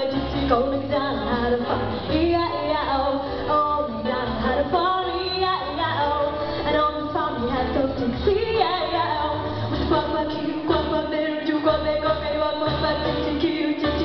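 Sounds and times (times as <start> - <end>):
woman singing pop song: 0.0 - 14.0.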